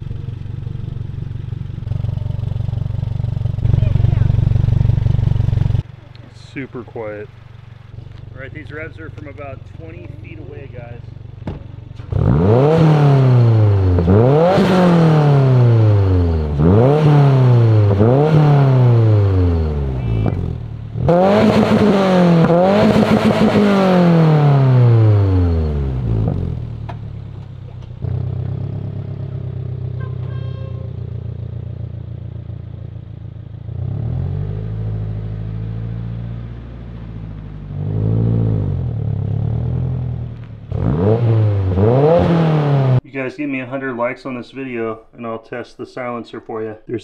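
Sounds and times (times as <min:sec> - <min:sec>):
car engine revving and idling: 0:00.0 - 0:43.0.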